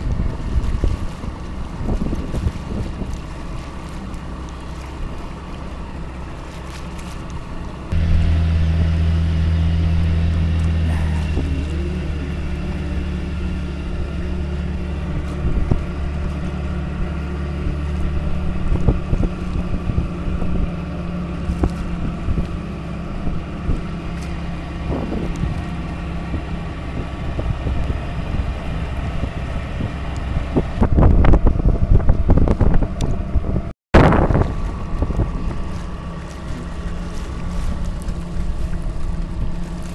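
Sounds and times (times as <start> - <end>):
wind buffeting microphone: 0.0 - 6.4, 7.4 - 39.9
boat engine droning: 0.0 - 39.9.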